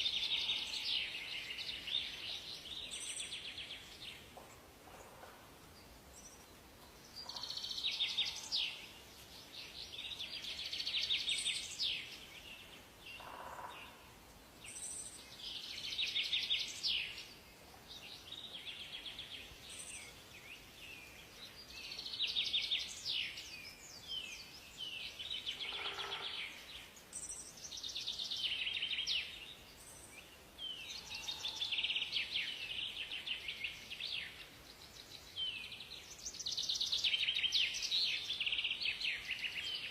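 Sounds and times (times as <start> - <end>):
faint steady hiss: 0.0 - 39.9
songbirds trilling: 0.0 - 39.9.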